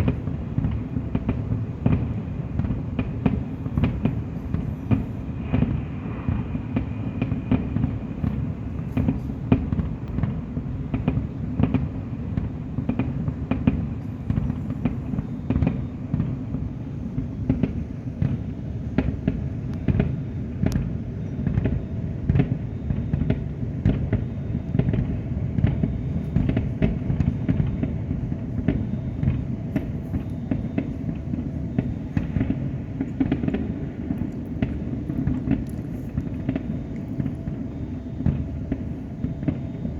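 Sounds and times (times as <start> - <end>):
fireworks bangs and cracks: 0.0 - 39.9
rumble of booming shells: 0.0 - 39.9.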